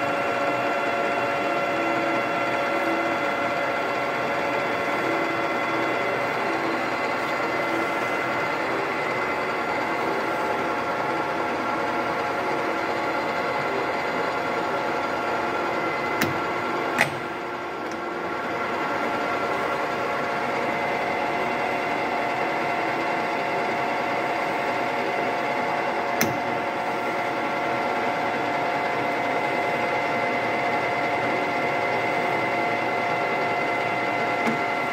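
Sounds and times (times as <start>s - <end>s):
lathe running with whine: 0.0s - 34.9s.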